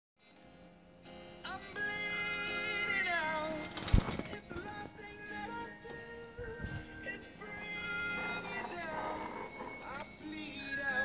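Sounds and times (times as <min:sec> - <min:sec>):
quiet music: 0:00.2 - 0:11.0
person singing: 0:01.4 - 0:11.0.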